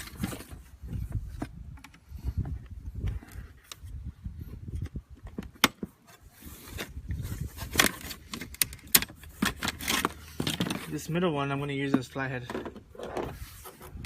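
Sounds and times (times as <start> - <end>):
handling knocks and scrapes: 0.0 - 14.0.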